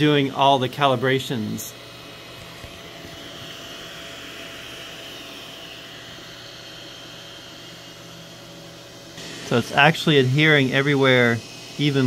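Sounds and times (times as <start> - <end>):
cooling fans whooshing: 0.0 - 12.0
faint high whine: 0.0 - 12.0.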